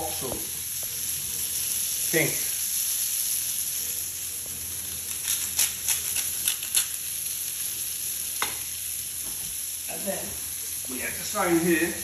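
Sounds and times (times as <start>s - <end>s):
steak sizzling in frying pan: 0.0s - 12.0s.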